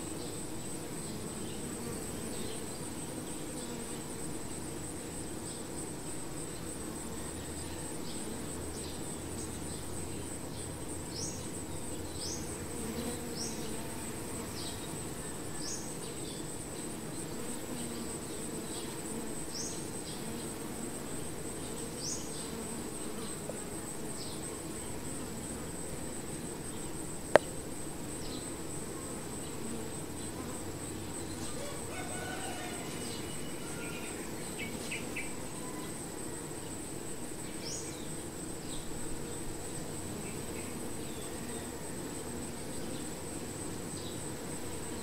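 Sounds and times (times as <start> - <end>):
bee swarm humming: 0.0 - 7.2, 7.8 - 45.0.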